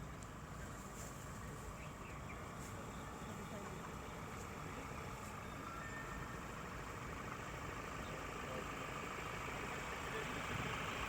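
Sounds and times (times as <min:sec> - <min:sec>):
diesel engine running at low revs: 0:00.0 - 0:11.0.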